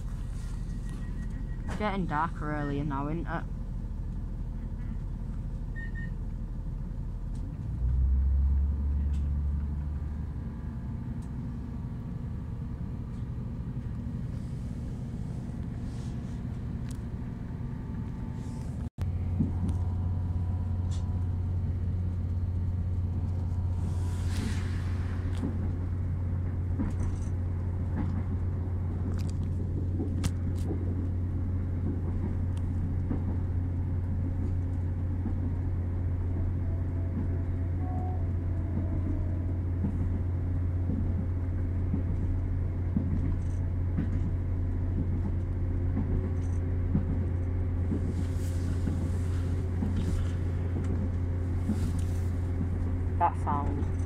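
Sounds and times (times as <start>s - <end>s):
train diesel engine rumble: 0.0s - 54.0s.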